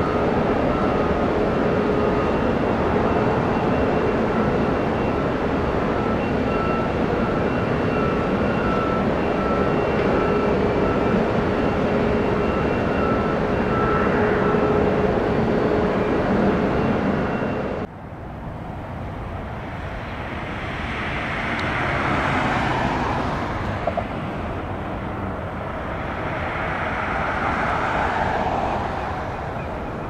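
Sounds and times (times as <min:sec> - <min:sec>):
aircraft engine roar: 0:00.0 - 0:30.0
jet engine roar with whine: 0:00.0 - 0:30.0.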